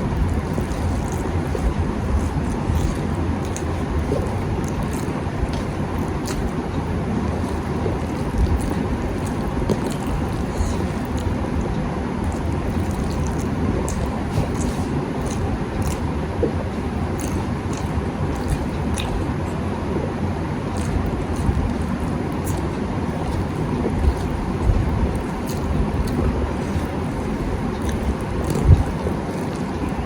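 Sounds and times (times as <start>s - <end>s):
low rumbling noise: 0.0s - 30.0s
person eating: 0.0s - 30.0s.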